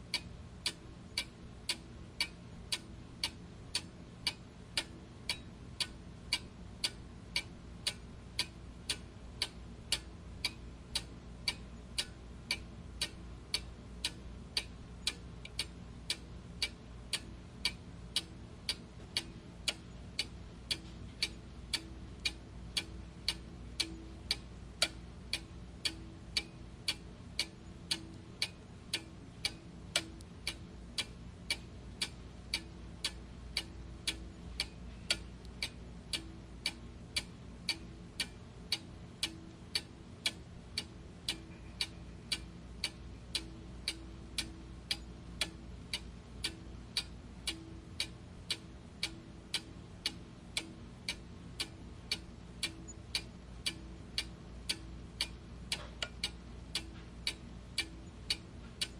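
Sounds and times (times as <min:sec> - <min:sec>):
faint low hum: 0:00.0 - 0:58.9
clock ticking: 0:00.1 - 0:58.9.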